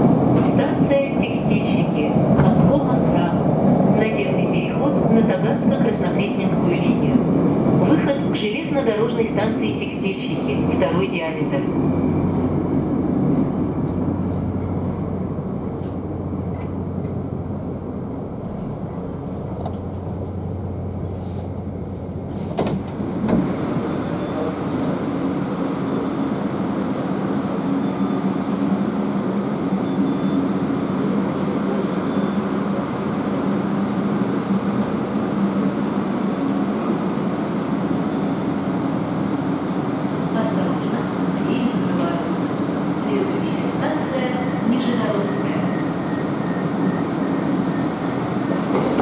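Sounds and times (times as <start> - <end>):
train wheels and motors rumbling: 0.0 - 49.0.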